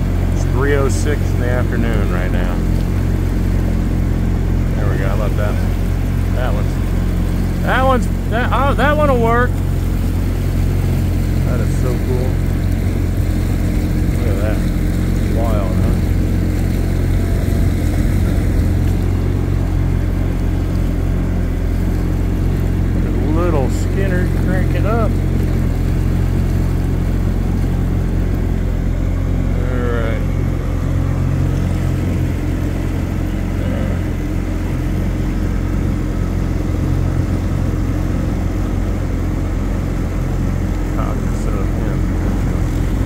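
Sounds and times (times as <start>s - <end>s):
boat engine droning: 0.0s - 43.0s
personal watercraft running: 0.0s - 43.0s
water wash: 0.0s - 43.0s.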